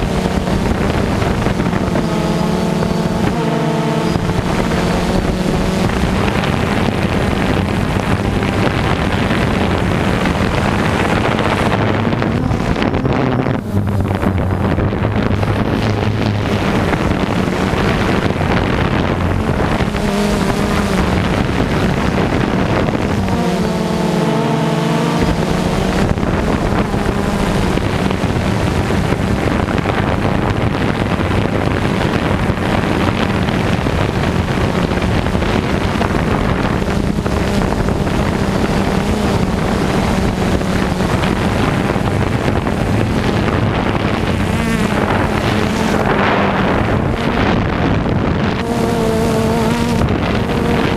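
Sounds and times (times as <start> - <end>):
heavy farm machinery engine: 0.0 - 50.9
wind buffeting microphone: 0.0 - 50.9.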